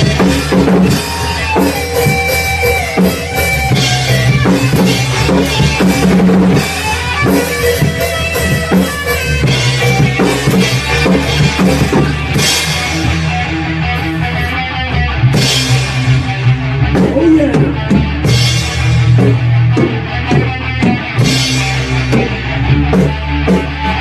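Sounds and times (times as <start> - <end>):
drum kit with cymbal crashes: 0.0 - 14.6, 15.2 - 24.0
bass guitar: 0.0 - 24.0
electric guitar: 0.0 - 24.0.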